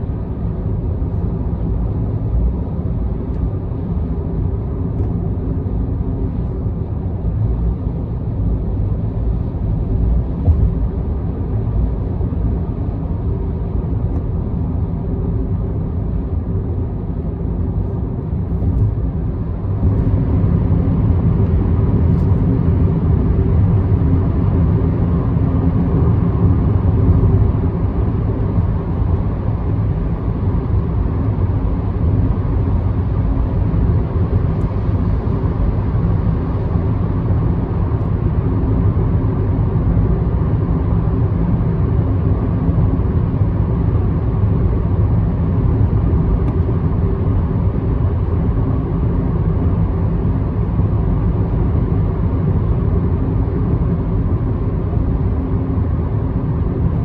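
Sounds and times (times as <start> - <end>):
car tyre and engine rumble: 0.0 - 57.0.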